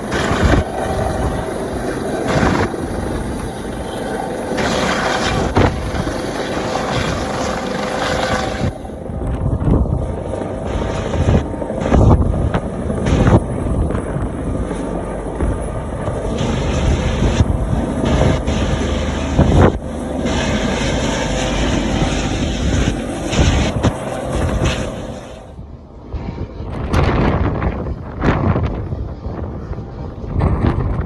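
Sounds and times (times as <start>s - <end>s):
helicopter hovering: 0.0s - 31.0s.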